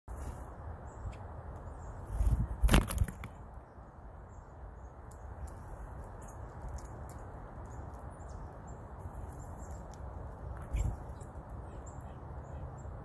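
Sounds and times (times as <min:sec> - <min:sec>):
low outdoor background noise: 0:00.1 - 0:13.0
small birds chirping: 0:00.1 - 0:13.0.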